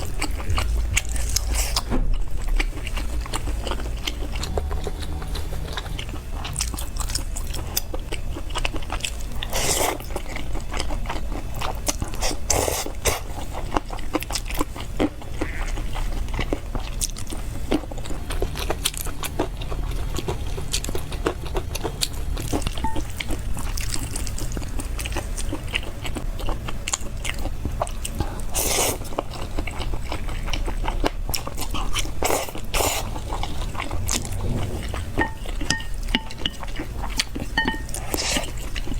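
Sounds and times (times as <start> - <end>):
faint low hum: 0.0 - 38.9
person chewing food: 0.0 - 38.9.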